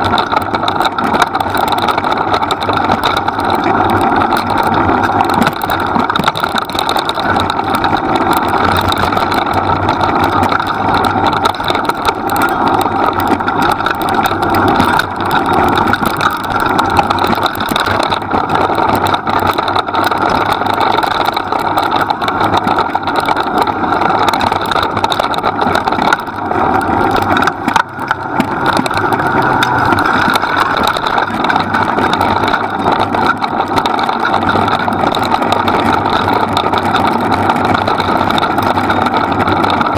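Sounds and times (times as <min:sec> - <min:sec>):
rig rolling over gravel track: 0:00.0 - 0:39.9.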